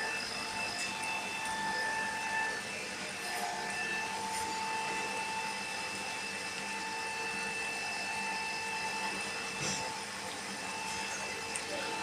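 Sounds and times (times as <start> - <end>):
laser cutter motor hum and whine: 0.0 - 12.0.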